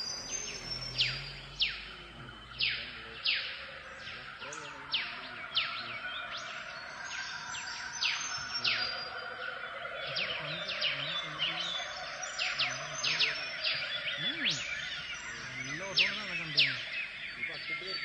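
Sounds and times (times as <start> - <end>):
birds whistling: 0.0 - 18.0.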